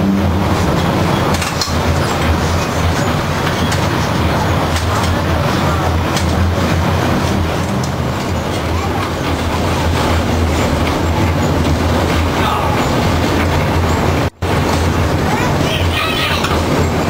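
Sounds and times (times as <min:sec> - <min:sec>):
streetcar rumbling and rattling: 0:00.0 - 0:17.0.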